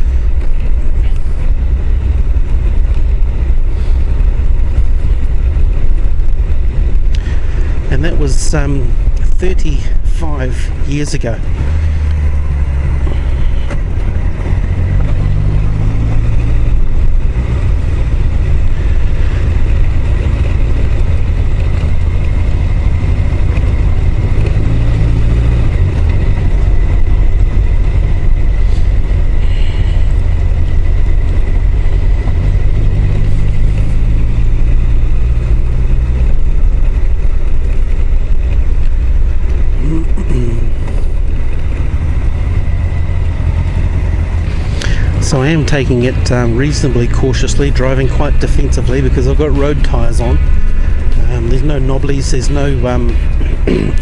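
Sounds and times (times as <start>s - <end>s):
heavy low rumble: 0.0s - 54.0s
motorcycle engine running: 0.0s - 54.0s.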